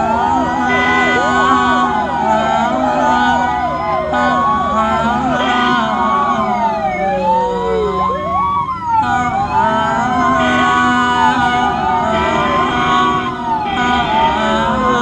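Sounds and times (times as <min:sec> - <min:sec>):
ambulance siren wailing: 0:00.0 - 0:15.0.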